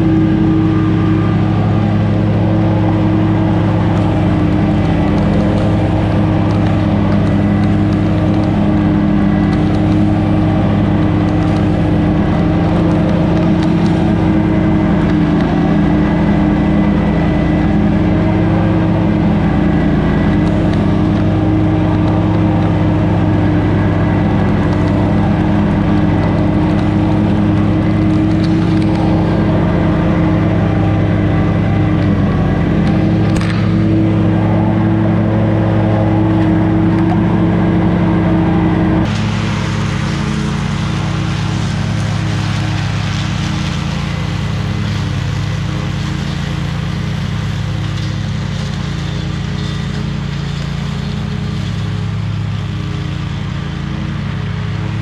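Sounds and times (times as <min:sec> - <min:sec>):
small engine running steadily: 0:00.0 - 0:55.0.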